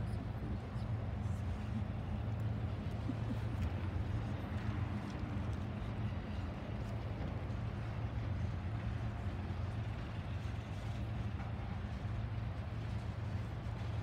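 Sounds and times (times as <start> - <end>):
constant low hum: 0.0 - 14.0
train wheels rumbling on rails: 0.0 - 14.0.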